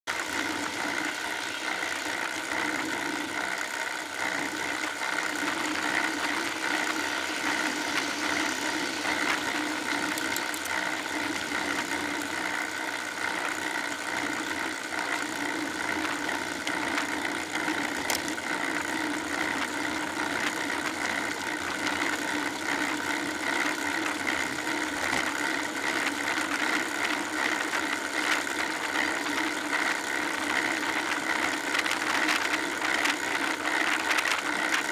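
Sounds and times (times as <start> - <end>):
bike riding hum on asphalt: 0.1 - 34.9.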